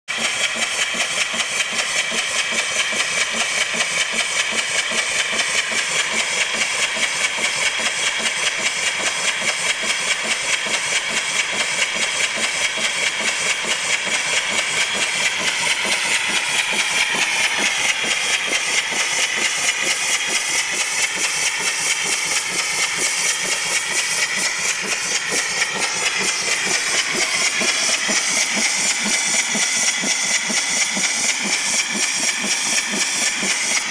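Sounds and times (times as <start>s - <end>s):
steam engine exhaust chuffs: 0.1s - 33.9s
hiss of escaping steam: 0.2s - 33.9s.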